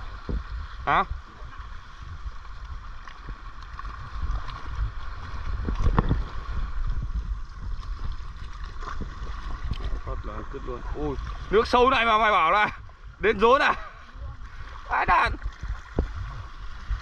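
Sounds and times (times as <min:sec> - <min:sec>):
sea water sloshing and splashing: 0:00.0 - 0:17.0
wind rumbling on microphone: 0:00.0 - 0:17.0.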